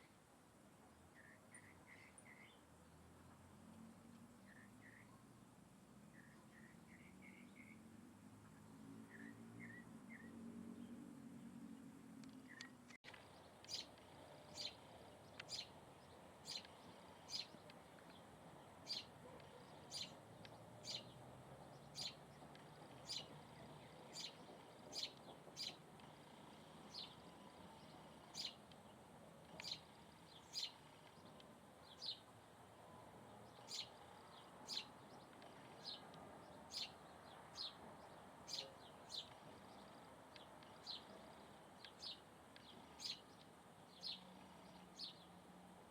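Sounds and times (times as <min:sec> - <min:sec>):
faint background hiss: 0:00.0 - 0:45.9
bird chirping: 0:01.2 - 0:02.7, 0:04.4 - 0:05.2, 0:06.1 - 0:45.4.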